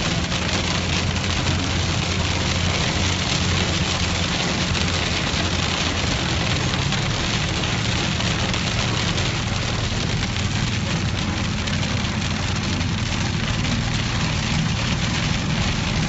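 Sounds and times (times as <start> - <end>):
engine and tyre rumble: 0.0 - 16.0
heavy rain on car roof: 0.0 - 16.0.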